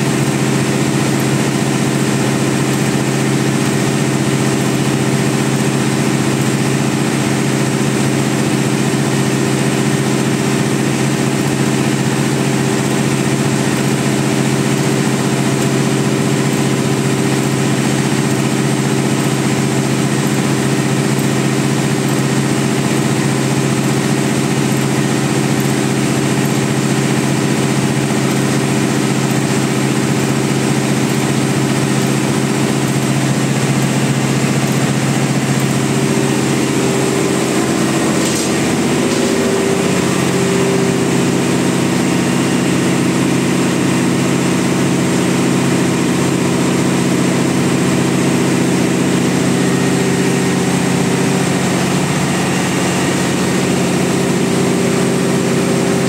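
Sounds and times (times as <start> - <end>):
large engine droning: 0.0 - 56.0.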